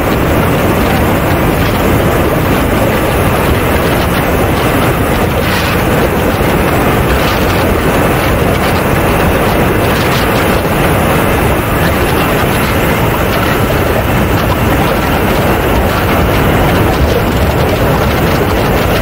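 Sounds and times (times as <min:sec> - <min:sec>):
model jet engine: 0:00.0 - 0:19.0
wind buffeting microphone: 0:00.0 - 0:19.0.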